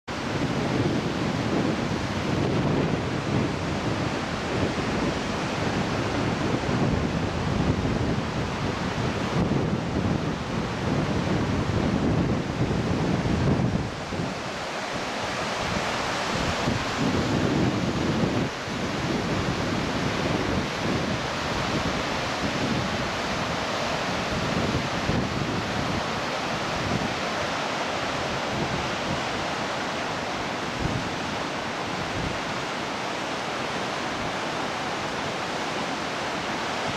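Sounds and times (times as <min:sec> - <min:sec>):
waterfall rushing: 0:00.1 - 0:36.9
wind buffeting microphone: 0:00.1 - 0:36.9.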